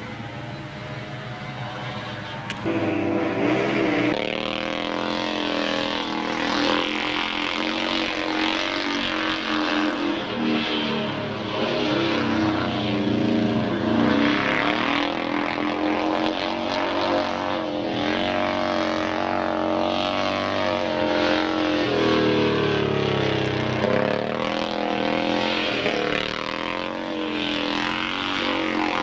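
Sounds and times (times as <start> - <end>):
motorcycle engine revving: 1.5 - 29.0.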